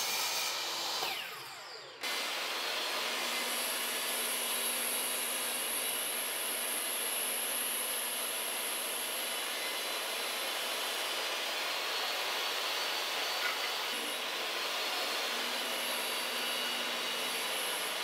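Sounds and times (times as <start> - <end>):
high whine of saw blade: 0.0 - 18.0.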